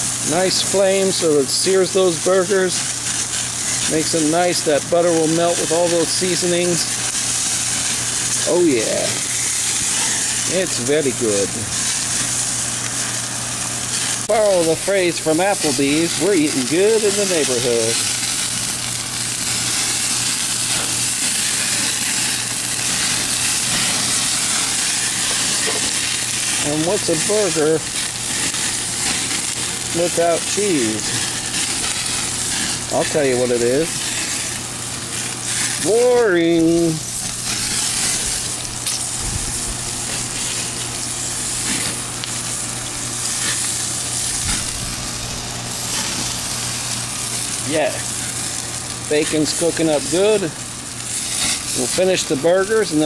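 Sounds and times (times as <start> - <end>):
burger patties sizzling on grill: 0.0 - 53.0.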